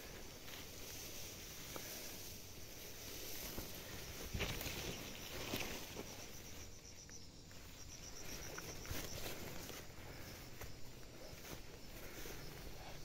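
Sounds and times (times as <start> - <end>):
footsteps through undergrowth: 0.0 - 13.0
insect trilling: 0.0 - 13.0.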